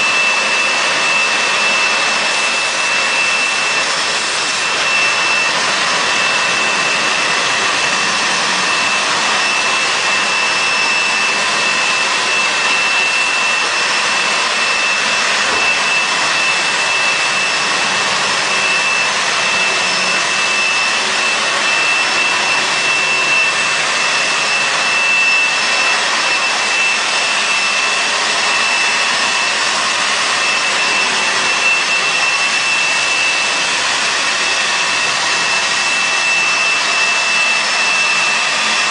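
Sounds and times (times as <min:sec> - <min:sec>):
carpet cleaner motor whining: 0:00.0 - 0:38.9.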